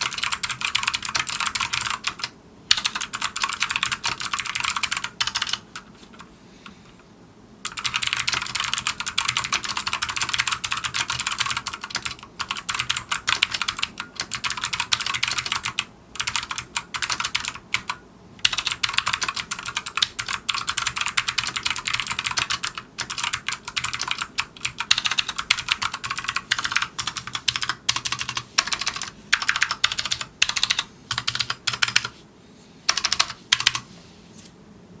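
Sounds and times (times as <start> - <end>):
fast keyboard typing: 0.0 - 6.3, 7.6 - 32.2, 32.9 - 33.9.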